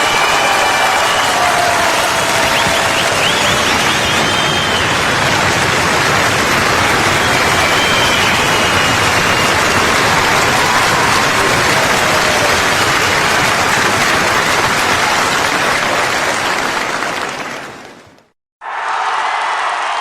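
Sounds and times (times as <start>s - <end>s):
crowd applause: 0.0s - 20.0s.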